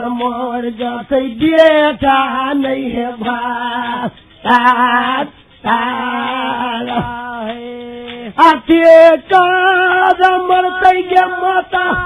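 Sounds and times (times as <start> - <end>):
man singing: 0.0 - 12.0.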